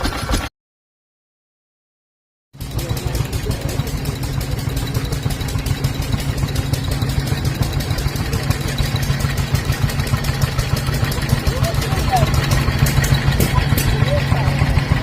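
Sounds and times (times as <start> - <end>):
steam engine running: 2.6 - 15.0.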